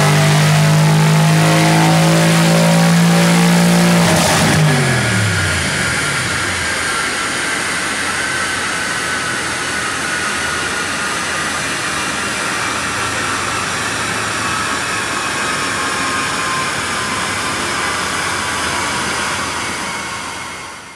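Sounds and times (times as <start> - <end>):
cooling fan air: 0.0 - 20.8
dyno rollers spinning down: 0.0 - 20.9.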